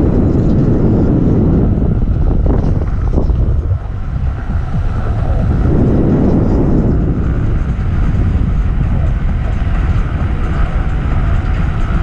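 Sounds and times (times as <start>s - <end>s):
skateboard wheels rumbling: 0.0s - 12.0s.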